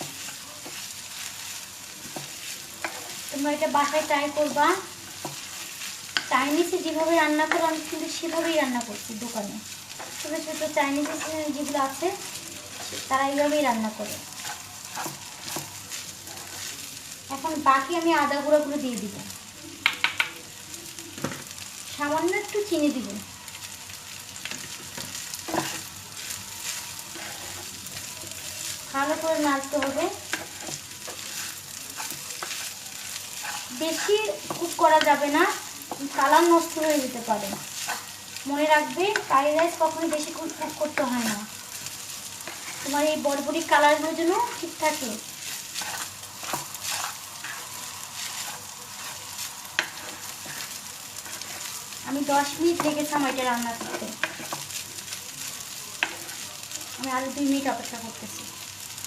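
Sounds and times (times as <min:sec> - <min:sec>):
spatula scraping a pan: 0:00.0 - 0:17.0, 0:24.4 - 0:56.9
rice sizzling in a pan: 0:00.0 - 0:59.0.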